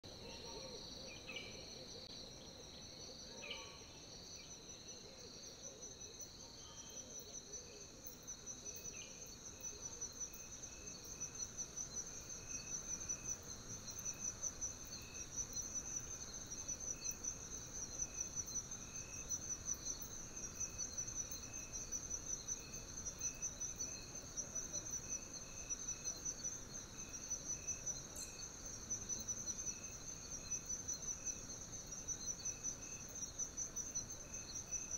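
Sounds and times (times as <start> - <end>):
insects chirring: 0.0 - 34.9.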